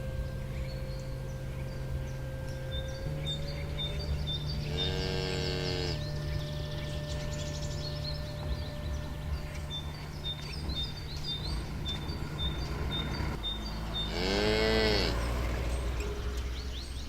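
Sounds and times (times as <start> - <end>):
cow mooing: 0.0 - 16.4
bird chirping high note: 0.0 - 17.0
steady low hum: 0.0 - 17.0.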